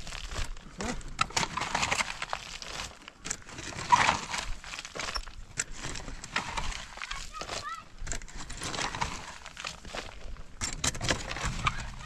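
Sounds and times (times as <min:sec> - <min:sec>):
shovels scraping stony earth: 0:00.0 - 0:12.0.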